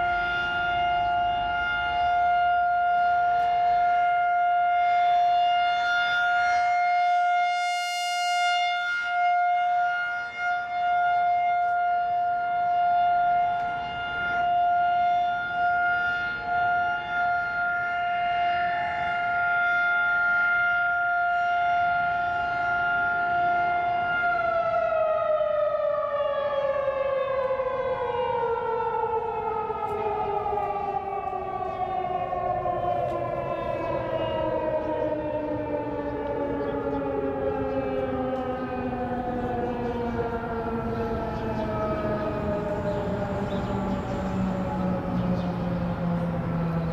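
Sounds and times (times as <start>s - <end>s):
warning siren winding down: 0.0s - 46.9s.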